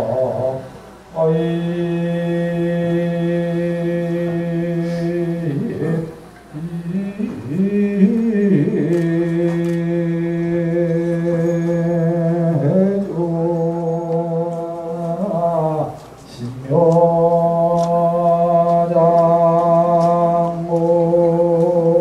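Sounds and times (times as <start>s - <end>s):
monks chanting over microphones: 0.0s - 22.0s.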